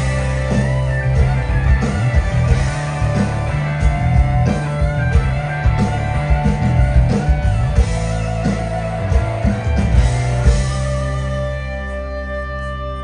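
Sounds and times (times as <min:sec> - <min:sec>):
blues-rock band playing: 0:00.0 - 0:13.0
electric guitar: 0:00.0 - 0:13.0.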